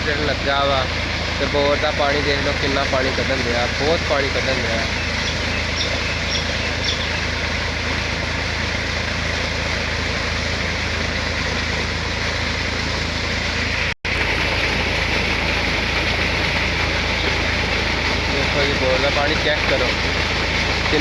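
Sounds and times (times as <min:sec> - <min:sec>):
tractor engine running: 0:00.0 - 0:21.0
water gushing: 0:00.0 - 0:21.0.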